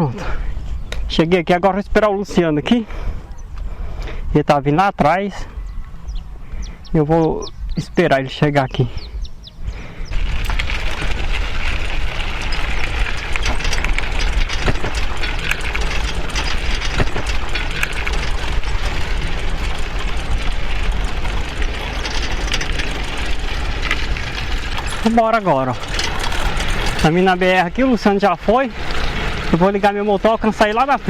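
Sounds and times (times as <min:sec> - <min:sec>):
road noise rumble: 0:02.3 - 0:31.0.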